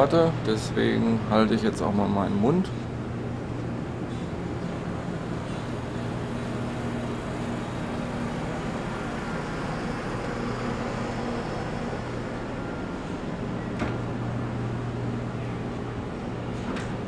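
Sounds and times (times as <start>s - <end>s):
machinery and ventilation hum: 0.0s - 17.0s.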